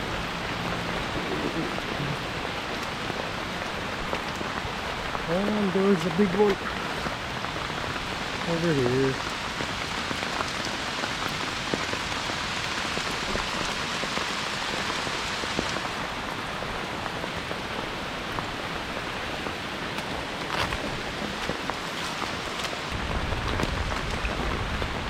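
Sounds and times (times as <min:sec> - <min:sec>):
heavy rain hissing: 0:00.0 - 0:25.0
raindrops ticking close by: 0:00.0 - 0:25.0.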